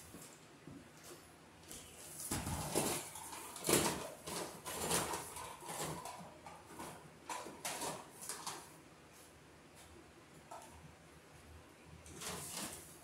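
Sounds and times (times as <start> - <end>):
rustling and scraping of materials: 0.0 - 10.7, 12.0 - 13.0.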